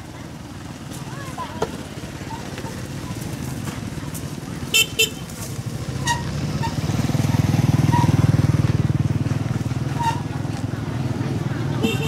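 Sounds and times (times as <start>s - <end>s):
motorbike engine passing by: 0.5s - 12.0s.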